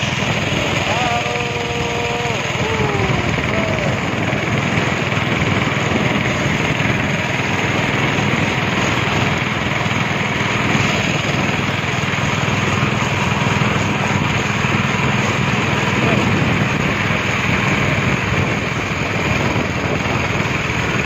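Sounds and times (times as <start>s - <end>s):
speedboat engine running: 0.0s - 21.0s.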